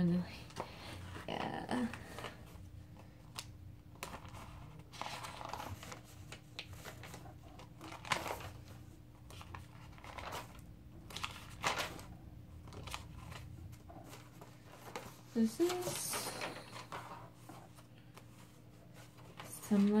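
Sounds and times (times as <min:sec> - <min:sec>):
faint steady hum: 0:00.0 - 0:20.0
paper pages rustling: 0:00.4 - 0:20.0.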